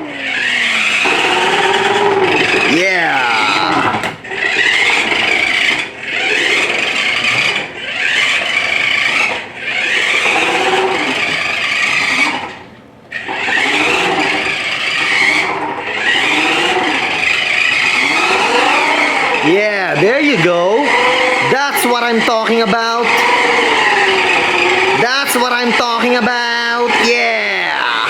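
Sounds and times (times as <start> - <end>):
toy car motor whirring: 0.0 - 28.0.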